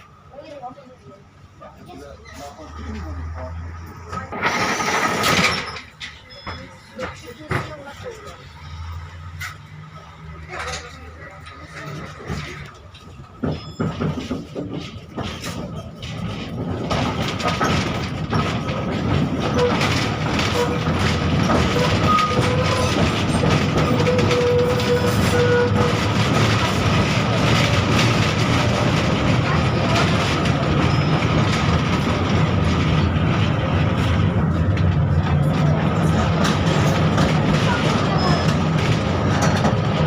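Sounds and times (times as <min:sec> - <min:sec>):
tram running on track: 0:00.0 - 0:40.0
wheel clicks over rail joints: 0:03.3 - 0:08.1, 0:10.4 - 0:40.0.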